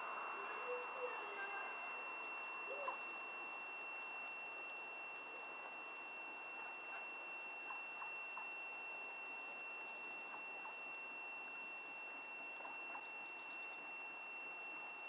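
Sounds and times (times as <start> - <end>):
faint chirps: 0.0 - 15.0
high-pitched whine: 0.0 - 15.0
low steady hiss: 0.0 - 15.0.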